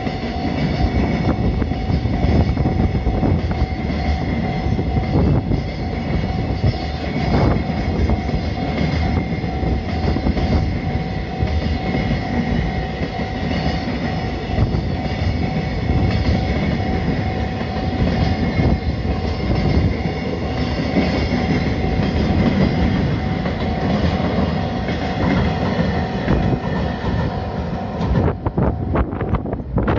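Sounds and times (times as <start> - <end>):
train wheels rumbling on rails: 0.0 - 29.9
wind buffeting microphone: 0.0 - 29.9.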